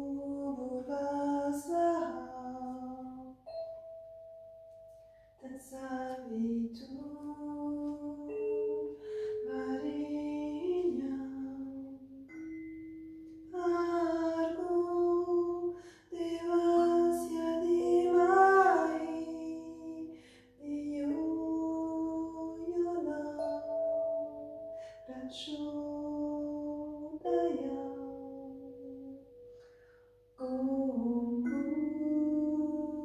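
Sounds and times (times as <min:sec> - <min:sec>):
woman singing wordless melody: 0:00.0 - 0:29.7, 0:30.4 - 0:33.0.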